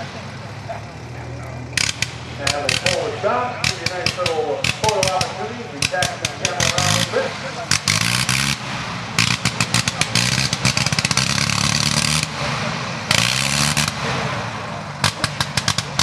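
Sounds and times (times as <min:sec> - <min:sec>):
rotary aircraft engine firing in bursts: 0:01.8 - 0:16.0.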